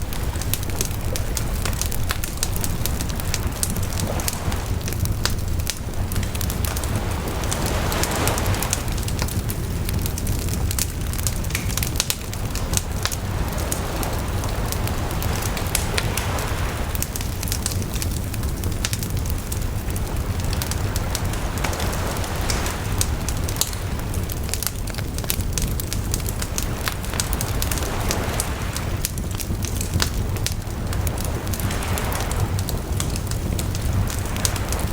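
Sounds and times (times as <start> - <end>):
campfire crackling and popping: 0.0 - 34.9
ocean waves washing on shore: 0.0 - 34.9
steady low rumble: 0.0 - 34.9.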